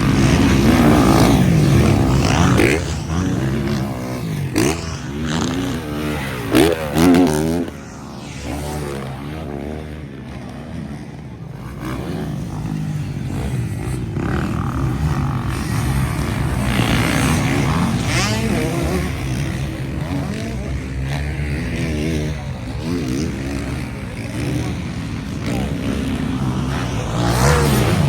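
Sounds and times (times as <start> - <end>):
motocross motorcycles revving: 0.0 - 28.0.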